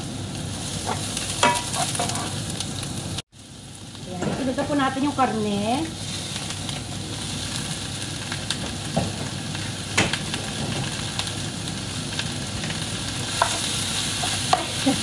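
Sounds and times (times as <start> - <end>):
onions and meat sizzling in pan: 0.0 - 15.0.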